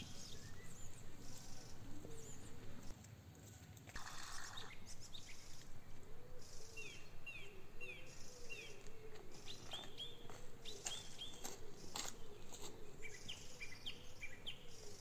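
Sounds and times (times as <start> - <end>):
small birds chirping: 0.0 - 2.9, 4.0 - 15.0.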